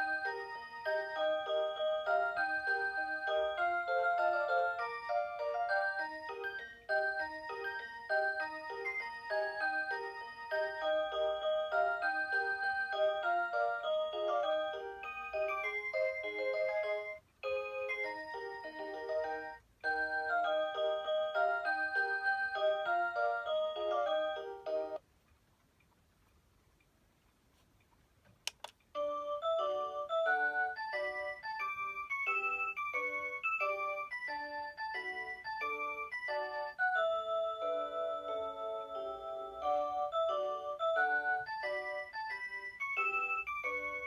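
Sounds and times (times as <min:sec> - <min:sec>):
alarm clock electronic melody: 0:00.0 - 0:25.0, 0:29.0 - 0:44.0.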